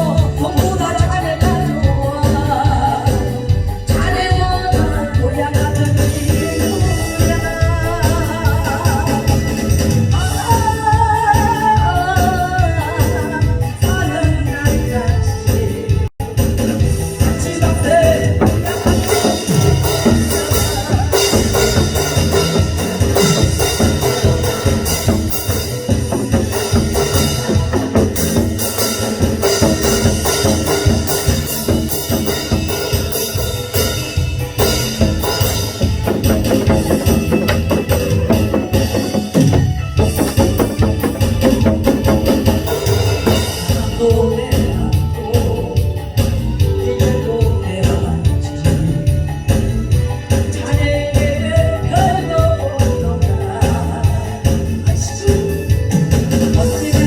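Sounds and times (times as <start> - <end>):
loud music with drum beat: 0.0 - 57.0.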